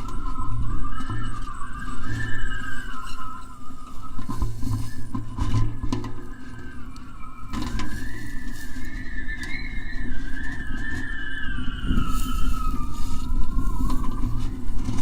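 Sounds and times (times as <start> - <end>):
kite reel whistling tone: 0.0 - 15.0.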